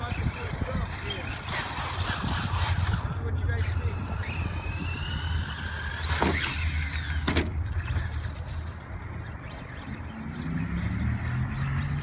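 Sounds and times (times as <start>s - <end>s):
electric motor whine revving: 0.0s - 12.0s.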